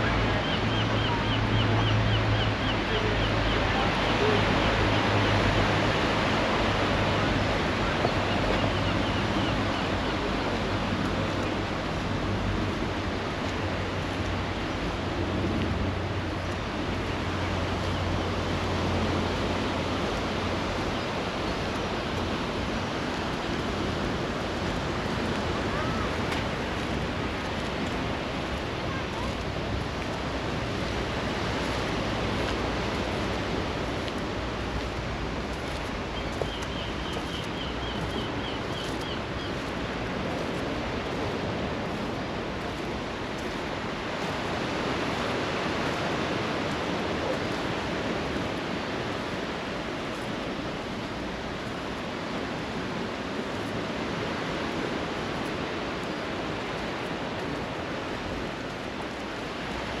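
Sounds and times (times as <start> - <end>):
sea waves washing on shore: 0.0 - 60.0.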